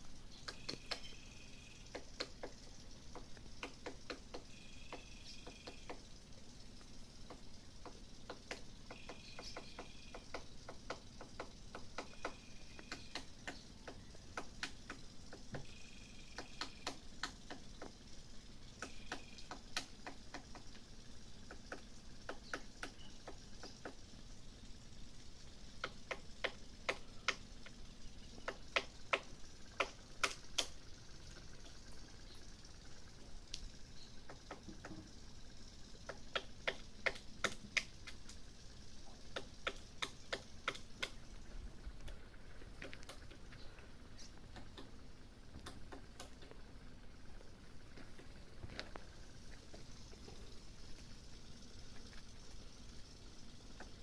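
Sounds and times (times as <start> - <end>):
woodpecker tapping on wood: 0.0 - 24.2, 25.7 - 46.7, 47.4 - 54.0.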